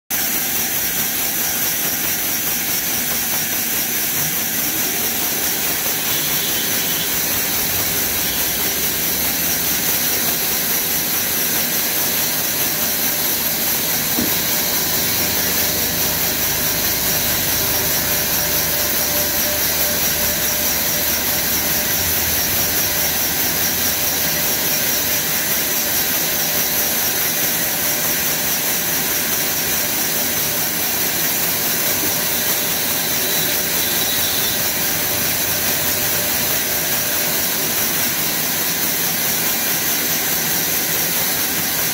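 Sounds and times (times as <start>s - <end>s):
band saw cutting through log: 0.1s - 41.9s.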